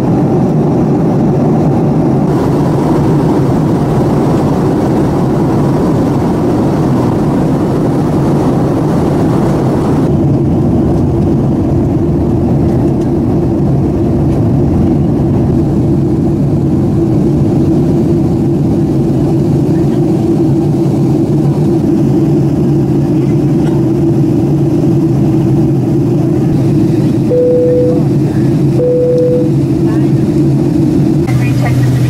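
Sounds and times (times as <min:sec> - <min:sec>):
airliner cabin engine rush: 0:00.0 - 0:32.0.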